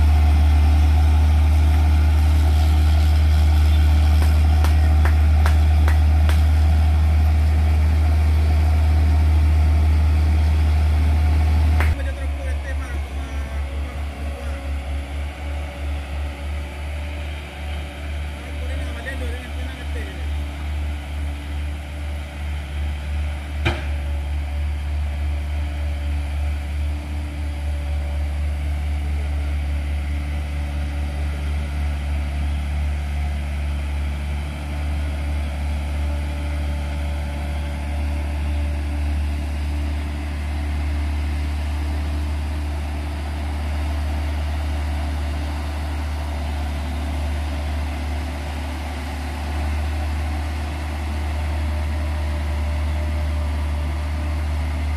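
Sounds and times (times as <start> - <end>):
diesel truck engine under load: 0.0 - 54.9.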